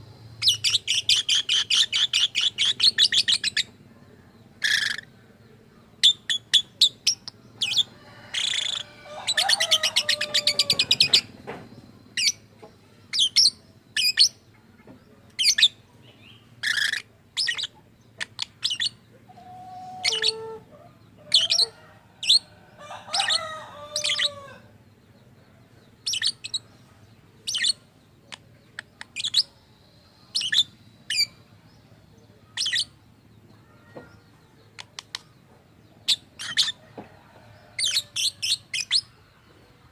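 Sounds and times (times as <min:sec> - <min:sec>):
lovebird chirping: 0:00.1 - 0:03.8, 0:05.8 - 0:14.5, 0:15.1 - 0:22.5, 0:23.1 - 0:36.9, 0:37.5 - 0:39.9
bird warbling chatter: 0:00.3 - 0:03.8, 0:04.5 - 0:05.2, 0:05.9 - 0:22.5, 0:23.1 - 0:24.7, 0:25.9 - 0:26.8, 0:27.4 - 0:29.7, 0:30.3 - 0:36.9.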